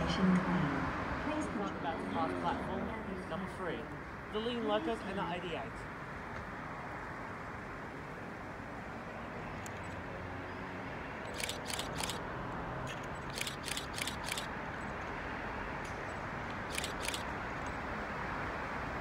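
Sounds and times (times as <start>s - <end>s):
distant traffic: 0.0s - 19.0s
wind: 0.0s - 19.0s.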